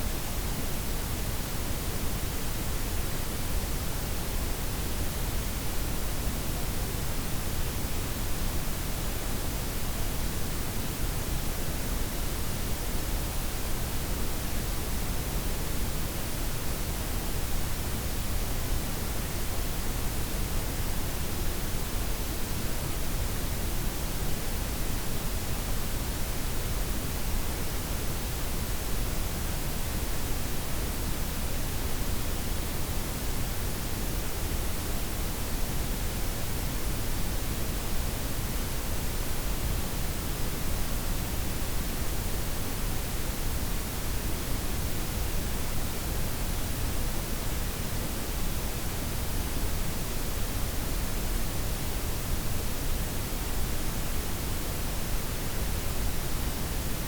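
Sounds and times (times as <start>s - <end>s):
steady noise hiss: 0.0s - 57.0s.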